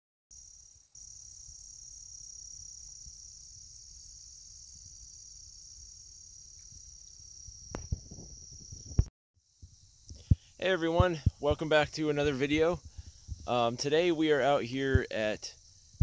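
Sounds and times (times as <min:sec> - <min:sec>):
insects chirring: 0:00.3 - 0:16.0.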